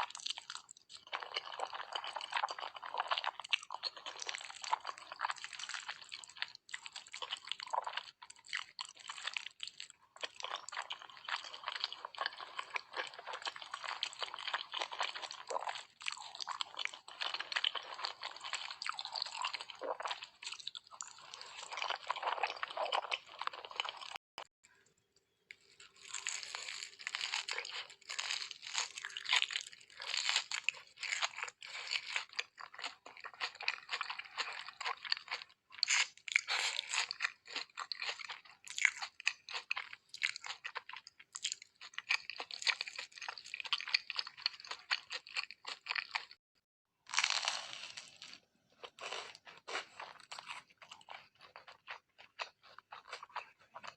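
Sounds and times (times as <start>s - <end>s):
chewing and crunching food: 0.0s - 53.9s.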